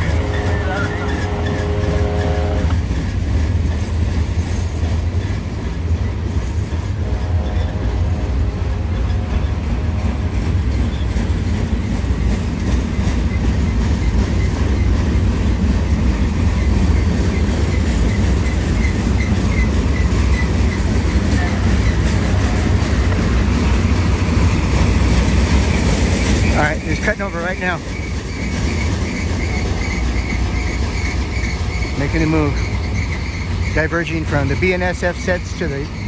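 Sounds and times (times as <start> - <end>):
freight train rumbling: 0.0 - 36.0
wheels clacking over rail joints: 0.0 - 36.0.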